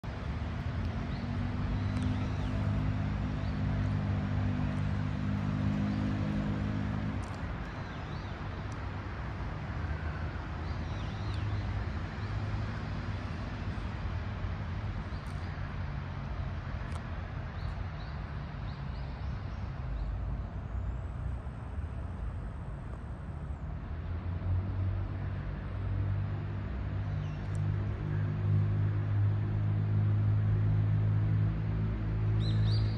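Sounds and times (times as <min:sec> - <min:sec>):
city road traffic rumble: 0:00.0 - 0:32.9.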